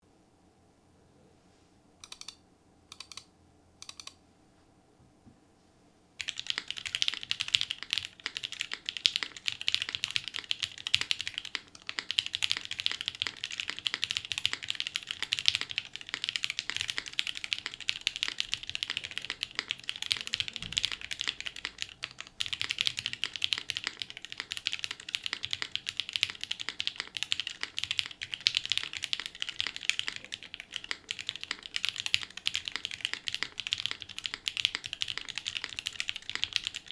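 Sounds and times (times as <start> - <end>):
typing on mechanical keyboard: 2.0 - 4.2, 6.2 - 36.9.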